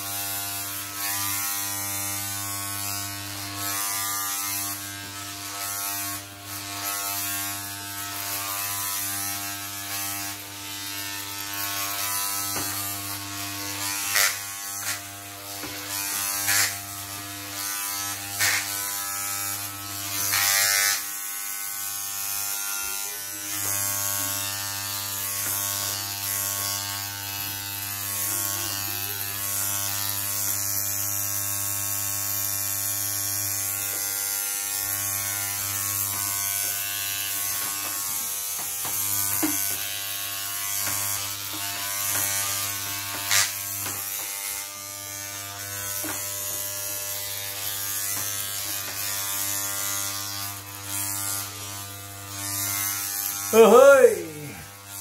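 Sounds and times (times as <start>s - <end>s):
clipper blades rasping through hair: 0.0s - 55.0s
electric hair clippers buzzing: 0.0s - 55.0s.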